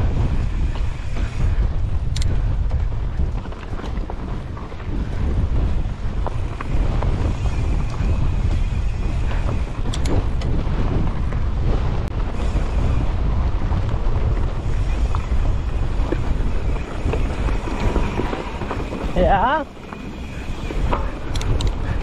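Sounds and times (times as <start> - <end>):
bike clicks and rattles: 0.0 - 22.0
tyre noise: 0.0 - 22.0
wind rushing over microphone: 0.0 - 22.0.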